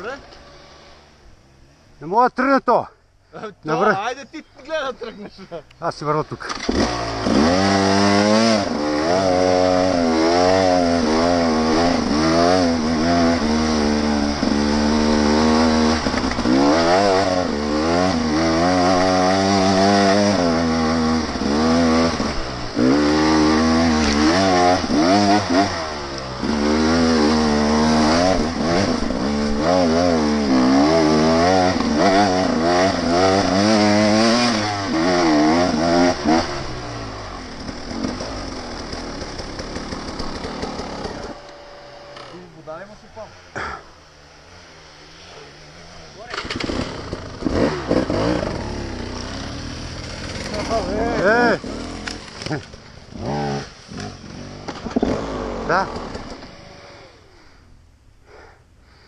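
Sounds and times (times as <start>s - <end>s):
dirt bike engine revving: 0.0s - 1.2s, 6.0s - 57.3s.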